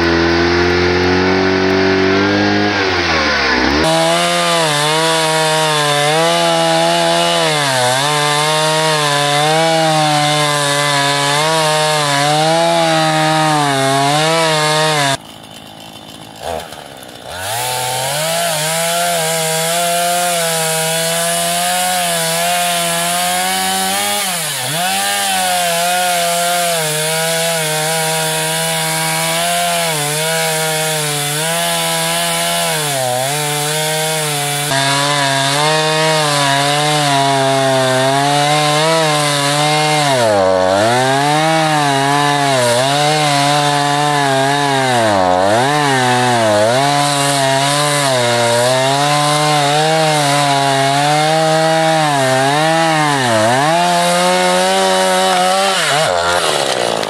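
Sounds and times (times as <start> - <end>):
chainsaw cutting through wood: 0.0 - 57.0.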